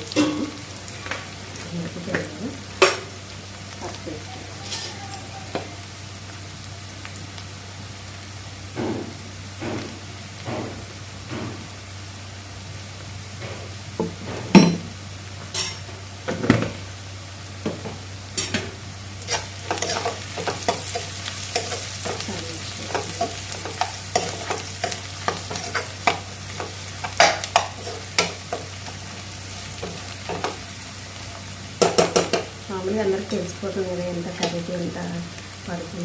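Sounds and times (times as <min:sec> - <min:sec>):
food sizzling in oil: 0:00.0 - 0:36.0.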